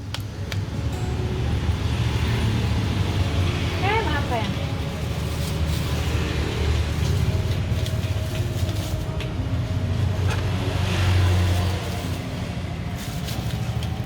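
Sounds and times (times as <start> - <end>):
passing vehicles rumbling: 0.0 - 14.0.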